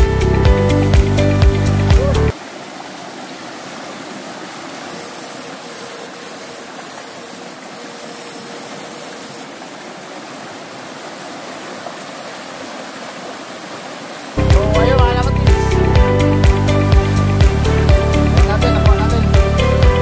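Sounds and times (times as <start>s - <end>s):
creek rushing over stones: 0.7s - 20.0s.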